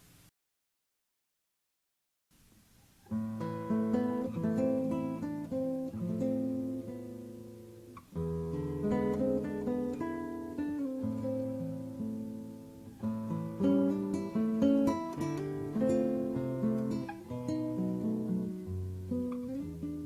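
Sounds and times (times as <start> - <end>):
acoustic guitar chords: 3.0 - 20.0.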